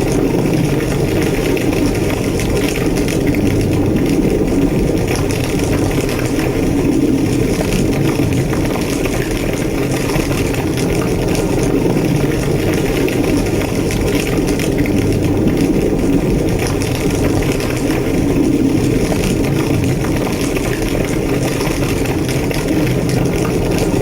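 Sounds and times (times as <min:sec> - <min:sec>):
large fire roaring and crackling: 0:00.0 - 0:24.0.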